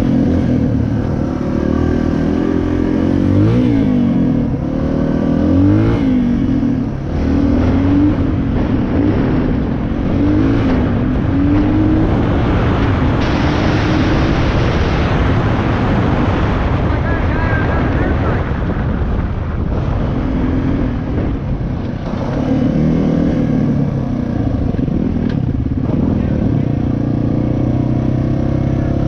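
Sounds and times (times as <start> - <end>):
dirt bike engine revving: 0.0 - 16.8, 19.7 - 29.0
wind noise on microphone: 0.0 - 28.7.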